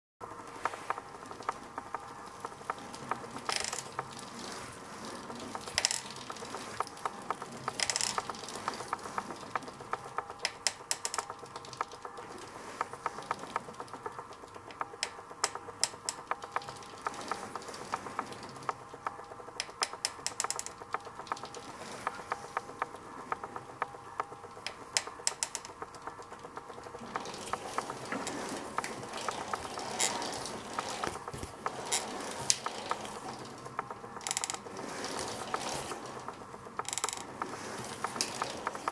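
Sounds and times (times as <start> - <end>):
bicycle crank ticking: 0.2 - 38.9
gritty clicking burst: 0.2 - 38.9
steady whirring rush: 0.2 - 38.9.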